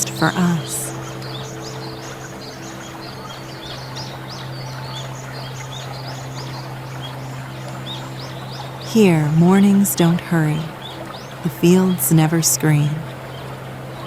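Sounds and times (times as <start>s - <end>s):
birds chirping: 0.0s - 14.0s
low hum of held tones: 0.0s - 14.0s.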